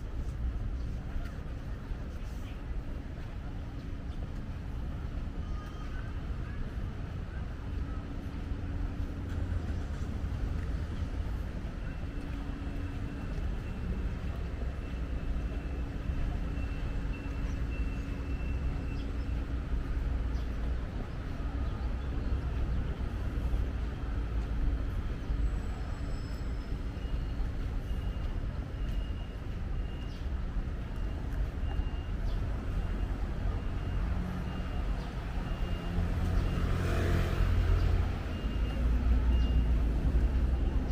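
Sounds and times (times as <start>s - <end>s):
street traffic rumble: 0.0s - 40.9s.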